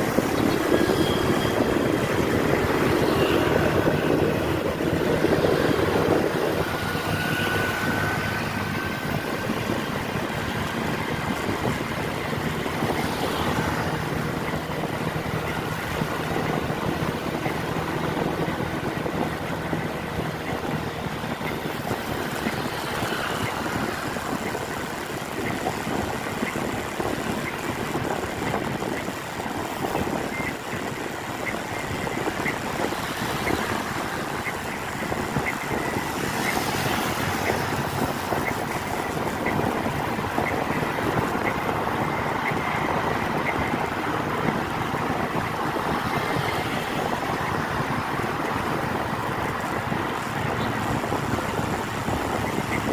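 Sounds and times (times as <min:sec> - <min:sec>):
tyres on a wet road: 0:00.0 - 0:52.9
vehicle engine running: 0:00.0 - 0:52.9
wind on microphone: 0:00.0 - 0:52.9.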